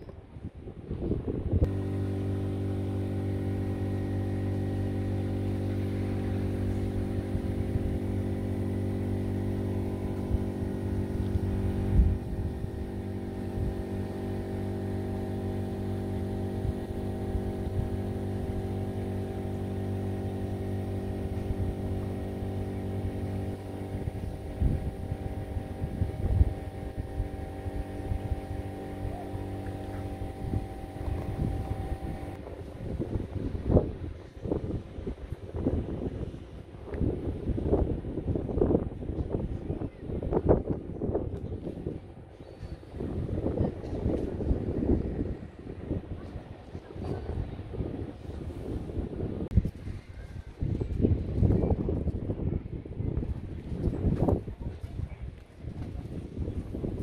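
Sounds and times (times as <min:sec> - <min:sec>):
low machine drone: 0:00.0 - 0:57.0
wind buffeting microphone: 0:00.0 - 0:57.0.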